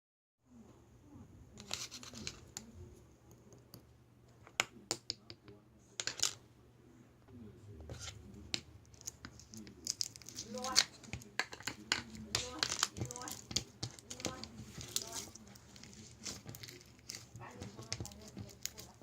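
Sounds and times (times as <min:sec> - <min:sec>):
faint voices: 0:00.5 - 0:19.0.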